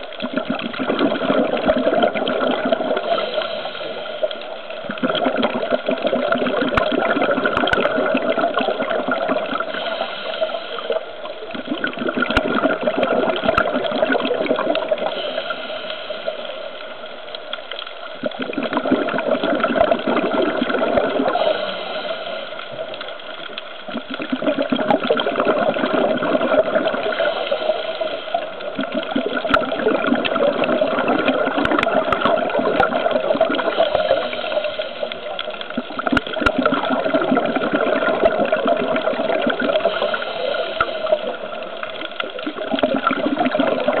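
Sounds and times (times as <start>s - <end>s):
scuba diver breathing bubbles: 0.0s - 44.0s.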